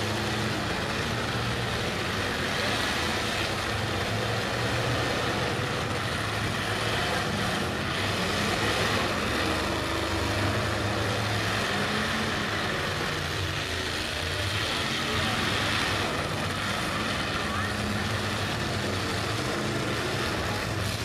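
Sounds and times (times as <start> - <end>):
car engines running: 0.0 - 21.0.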